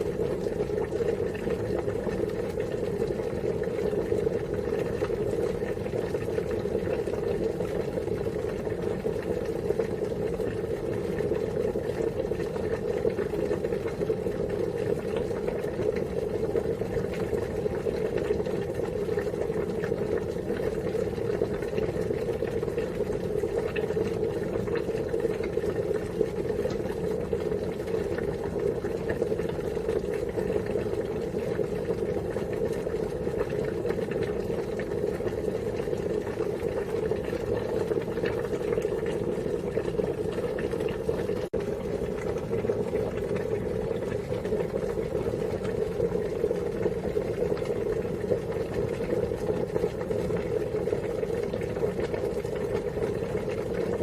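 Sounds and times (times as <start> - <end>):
water boiling and bubbling: 0.0 - 54.0.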